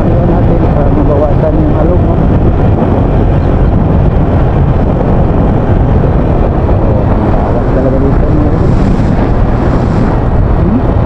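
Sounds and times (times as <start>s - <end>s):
road noise: 0.0s - 11.0s
wind rumble: 0.0s - 11.0s.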